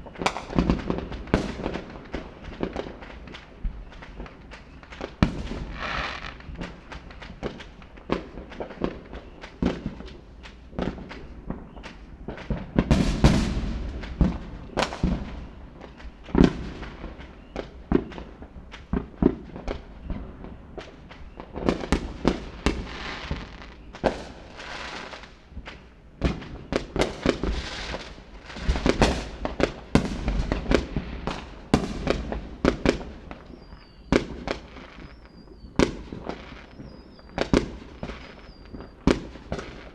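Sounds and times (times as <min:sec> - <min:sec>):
fireworks bangs and booms: 0:00.0 - 0:39.9
fireworks crackling: 0:00.0 - 0:39.9.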